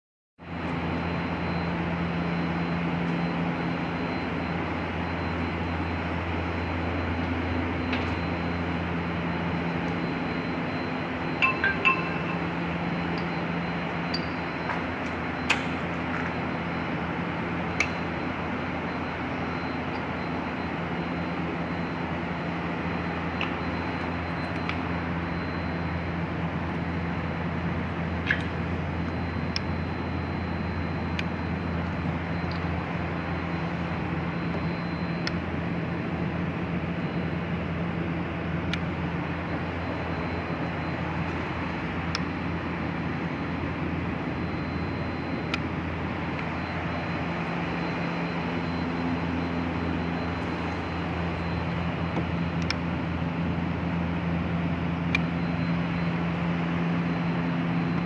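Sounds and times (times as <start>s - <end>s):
high whine: 0.4s - 58.0s
mechanical hum: 0.4s - 58.0s.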